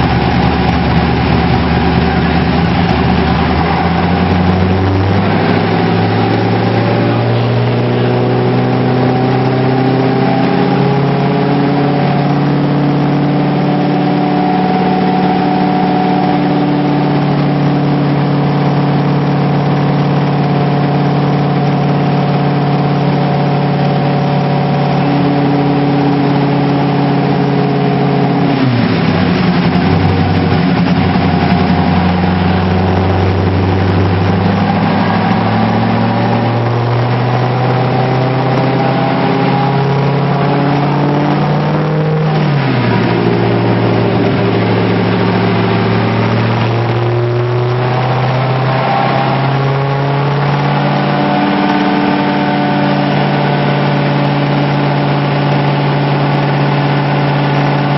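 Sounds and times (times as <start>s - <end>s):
car engine shifting through gears: 0.0s - 57.9s.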